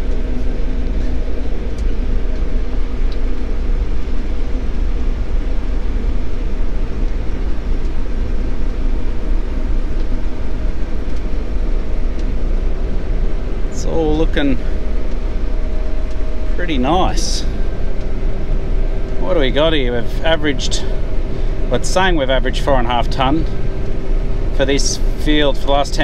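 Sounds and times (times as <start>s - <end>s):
combine harvester drone: 0.0s - 26.0s.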